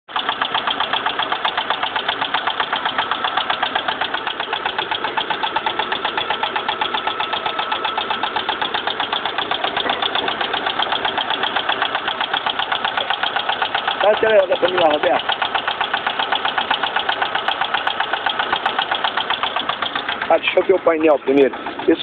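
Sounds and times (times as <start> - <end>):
car engine idling with knocking: 0.0 - 22.0.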